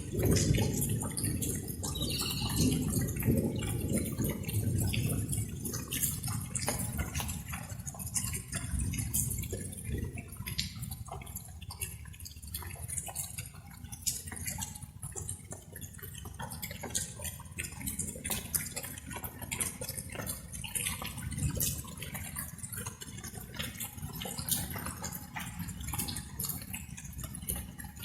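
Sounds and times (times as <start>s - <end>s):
rain drops dripping: 0.0s - 28.0s.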